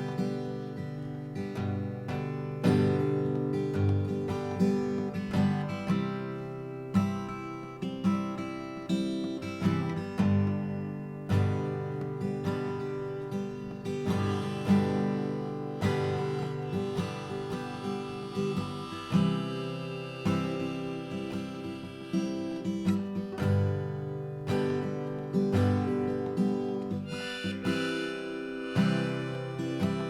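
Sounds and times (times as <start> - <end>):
acoustic guitar playing: 0.0 - 30.0.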